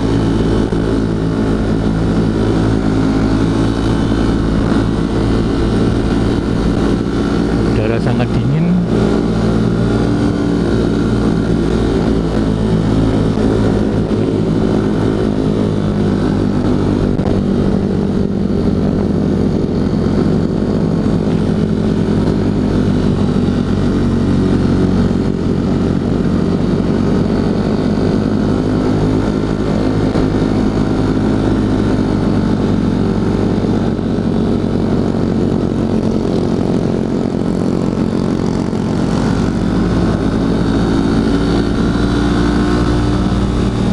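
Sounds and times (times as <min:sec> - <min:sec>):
motorcycle engine running steadily: 0:00.0 - 0:43.9.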